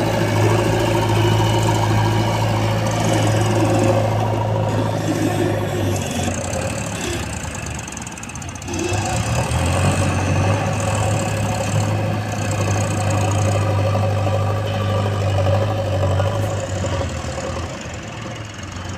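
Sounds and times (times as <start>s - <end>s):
heavy diesel engine running: 0.0s - 18.9s.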